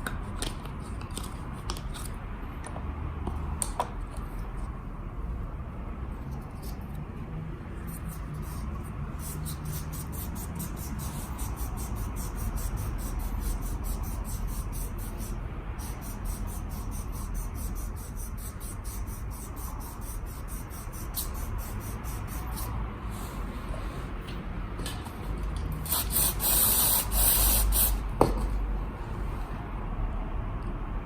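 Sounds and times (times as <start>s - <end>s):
steady low hum: 4.3s - 30.2s.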